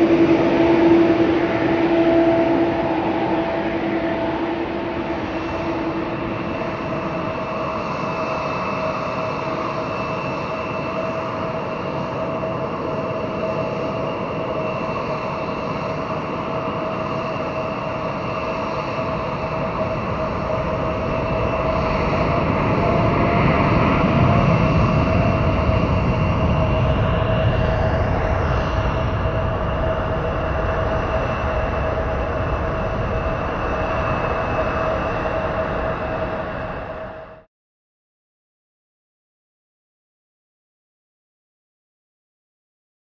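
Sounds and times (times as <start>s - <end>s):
jet engines hissing and whining: 0.0s - 37.5s.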